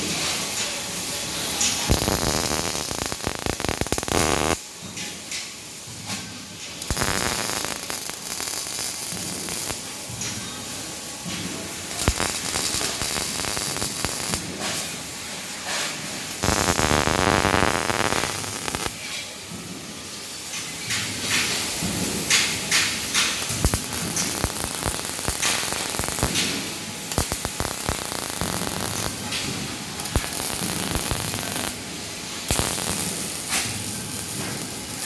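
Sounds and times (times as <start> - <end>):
arc welding crackling: 0.8 - 4.6, 6.7 - 19.0, 20.2 - 35.0.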